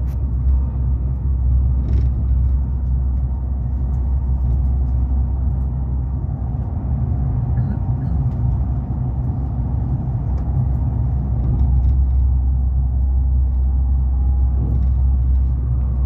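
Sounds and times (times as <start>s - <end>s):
train cabin low rumble: 0.0s - 16.0s.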